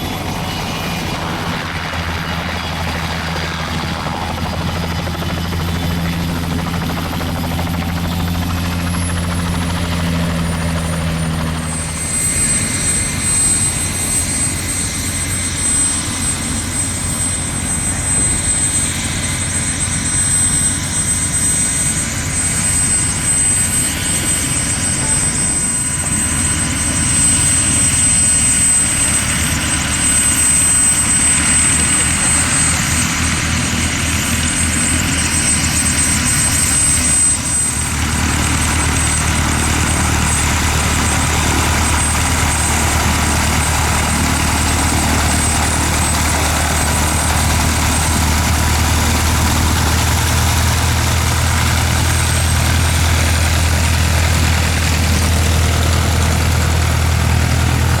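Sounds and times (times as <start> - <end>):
aircraft engine running: 0.0 - 58.0.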